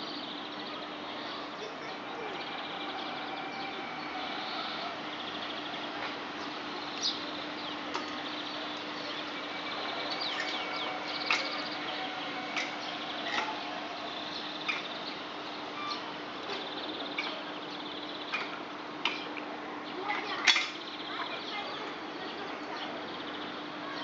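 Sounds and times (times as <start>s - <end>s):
faint low outdoor hum: 0.0s - 24.0s
songbirds chirping: 0.0s - 24.0s.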